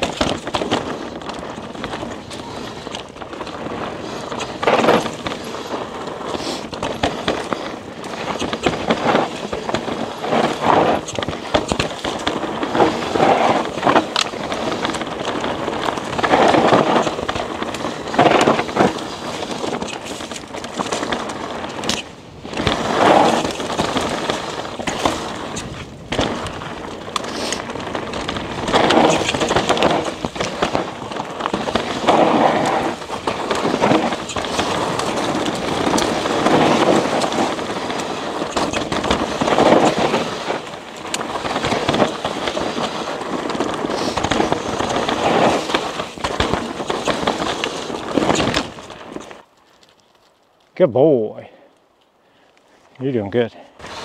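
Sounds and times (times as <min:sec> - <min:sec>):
bike rattling over bumps: 0:00.0 - 0:50.3
bike tyres crunching on dirt: 0:00.0 - 0:54.0.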